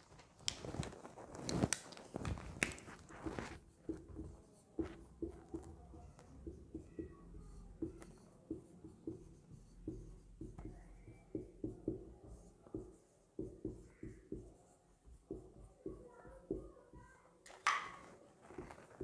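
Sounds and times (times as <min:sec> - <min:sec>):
marker writing on whiteboard: 0:02.5 - 0:19.0.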